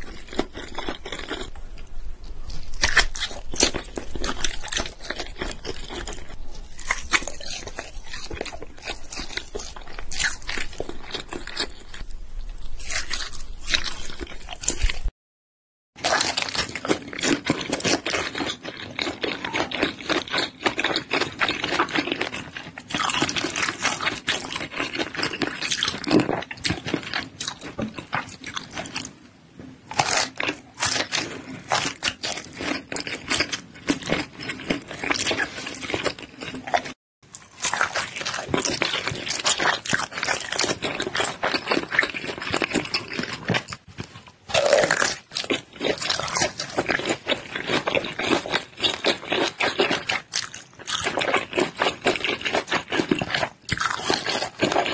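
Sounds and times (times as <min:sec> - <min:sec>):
chewing sausage: 0:00.0 - 0:15.1, 0:16.0 - 0:54.9.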